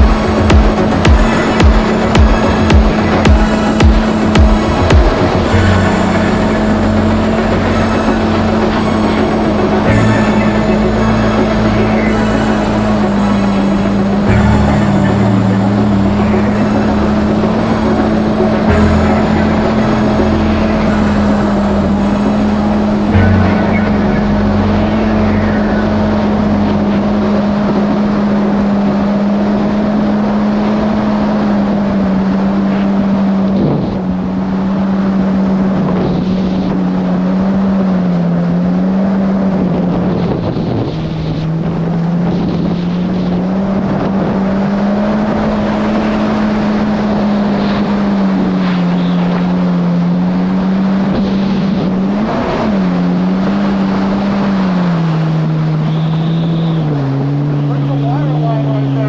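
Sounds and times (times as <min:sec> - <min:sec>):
jet ski engine running hard: 0:00.0 - 0:59.0.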